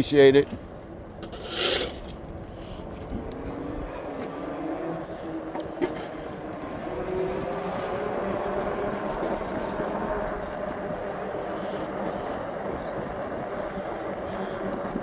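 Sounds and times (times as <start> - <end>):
wind noise: 0.4 - 15.0.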